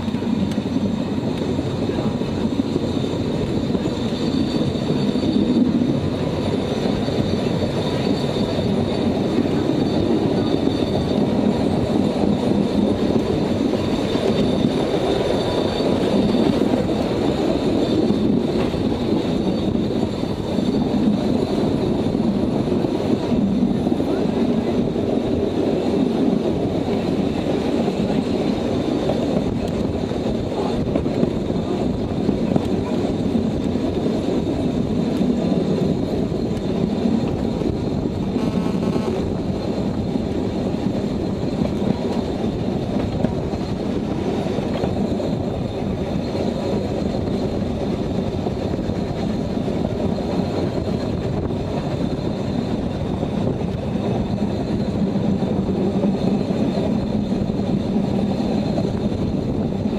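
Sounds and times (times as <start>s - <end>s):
train wagons rumbling on track: 0.0s - 59.9s.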